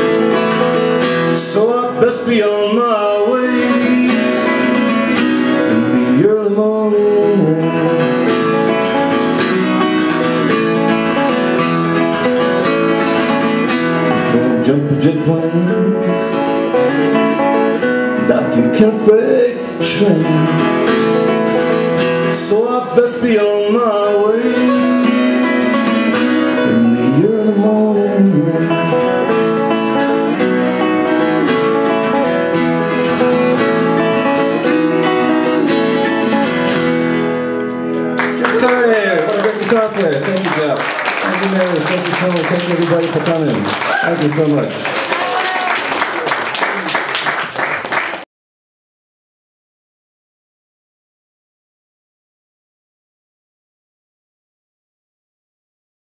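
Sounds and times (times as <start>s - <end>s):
country-folk guitars playing: 0.0s - 48.0s.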